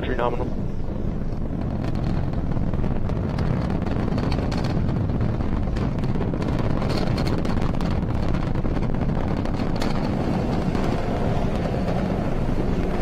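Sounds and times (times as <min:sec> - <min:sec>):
rocket engines rumbling: 0:00.0 - 0:13.0.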